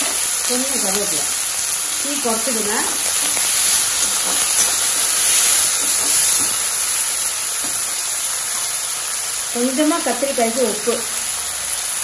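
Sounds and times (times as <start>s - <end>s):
eggplant sizzling in hot oil: 0.0s - 12.0s.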